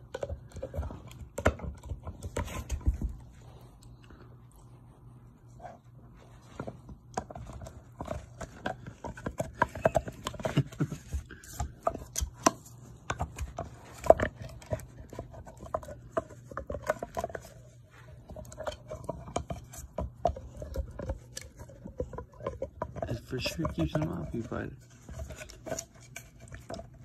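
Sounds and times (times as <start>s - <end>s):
dog gnawing a hard chew: 0.0s - 4.8s, 5.4s - 27.0s.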